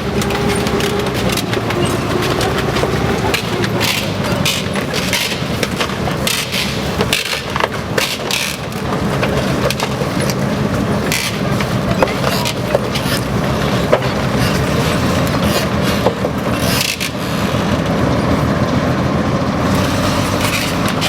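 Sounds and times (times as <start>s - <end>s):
steel tracks clattering: 0.0s - 21.0s
tank engine running: 0.0s - 21.0s.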